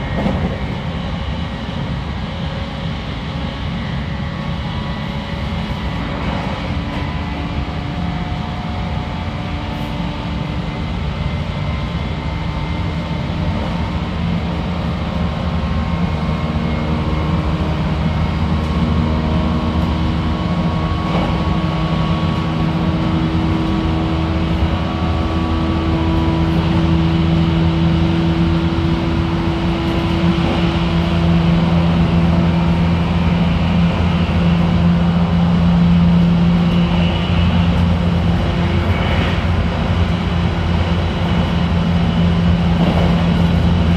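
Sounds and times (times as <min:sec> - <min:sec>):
train motors humming: 0:00.0 - 0:43.9
wheels rumbling on rail: 0:00.0 - 0:43.9.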